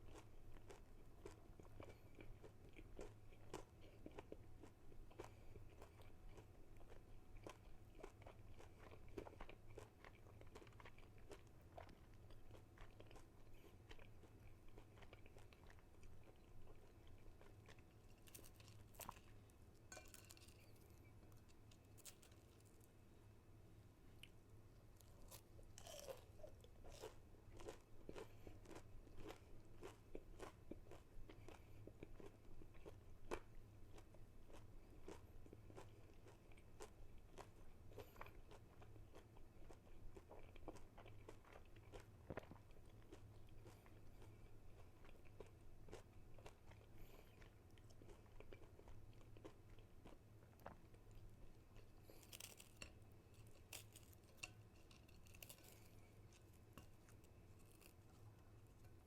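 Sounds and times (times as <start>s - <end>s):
crunchy chewing: 0.0s - 22.9s, 25.0s - 59.0s.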